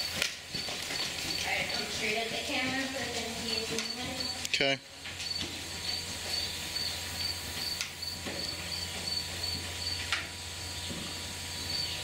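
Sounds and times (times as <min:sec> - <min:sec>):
insect chirping: 0:00.0 - 0:02.6, 0:03.2 - 0:04.4, 0:05.2 - 0:12.0
low steady hum: 0:00.0 - 0:12.0.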